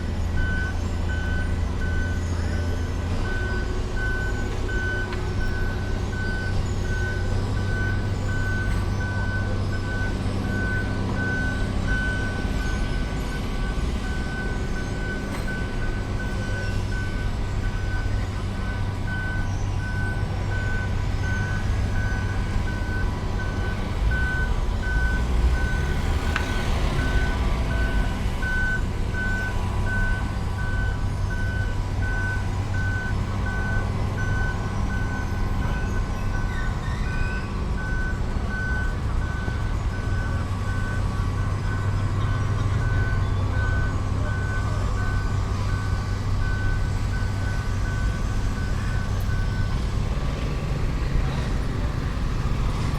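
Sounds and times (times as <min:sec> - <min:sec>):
diesel engine running: 0:00.0 - 0:52.9
reversing alarm beeping: 0:00.0 - 0:52.9.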